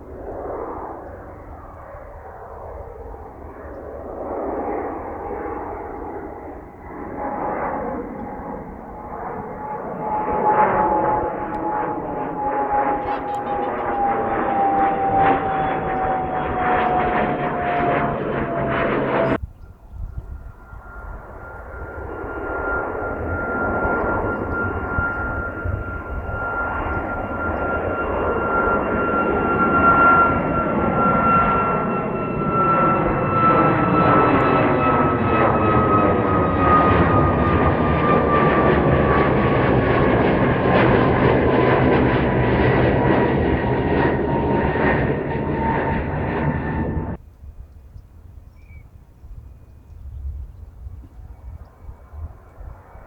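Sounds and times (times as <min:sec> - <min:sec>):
jet engine whine: 0:00.0 - 0:53.0.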